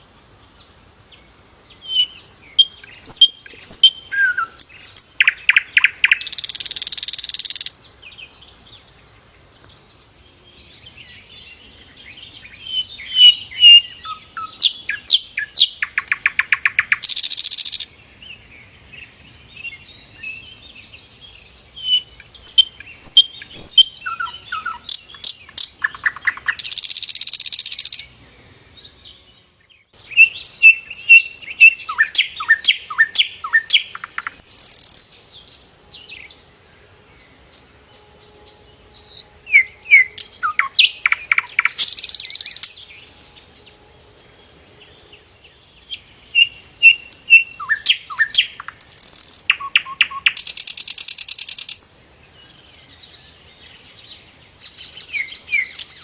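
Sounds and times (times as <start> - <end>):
flycatcher singing: 1.7 - 9.0, 9.6 - 18.0, 19.0 - 28.2, 28.8 - 36.5, 37.2 - 56.0.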